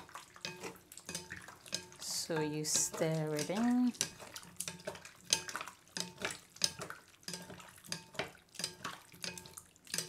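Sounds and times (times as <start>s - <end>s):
wet sloshing: 0.0s - 10.0s
spatula scraping glass bowl: 0.4s - 10.0s.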